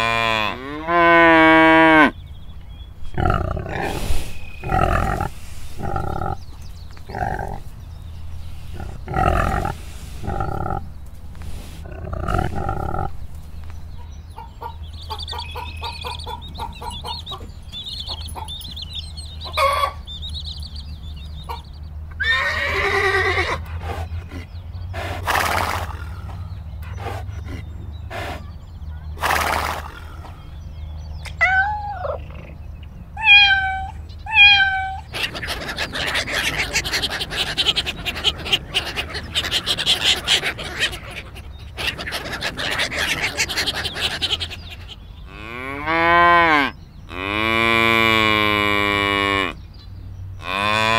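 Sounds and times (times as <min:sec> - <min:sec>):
farm animal calls: 0:00.0 - 0:49.7, 0:50.3 - 0:50.9.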